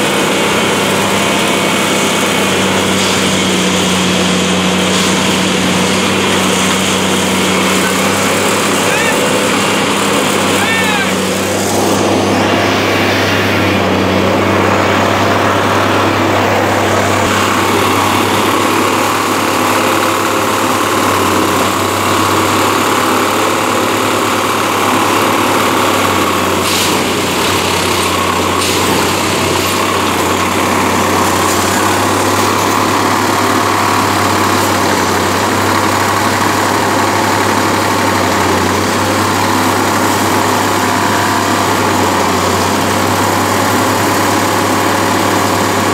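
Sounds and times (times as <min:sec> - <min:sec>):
diesel engine and hydraulics running: 0:00.0 - 0:45.9.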